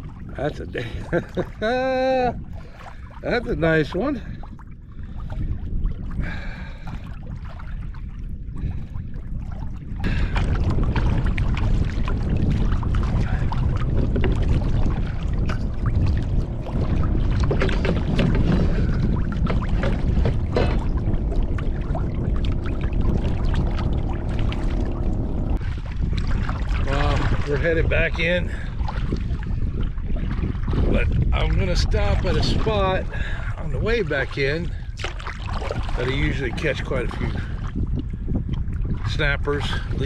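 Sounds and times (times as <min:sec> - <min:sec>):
water splashing against kayak: 0:00.0 - 0:40.0.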